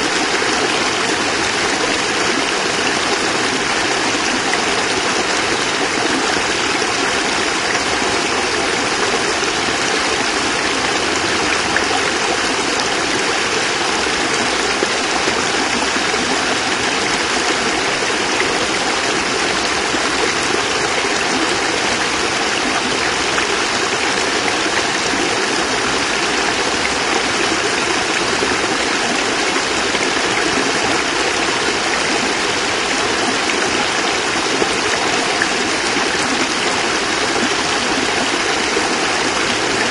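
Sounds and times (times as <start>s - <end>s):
water pouring over cascade: 0.0s - 39.9s.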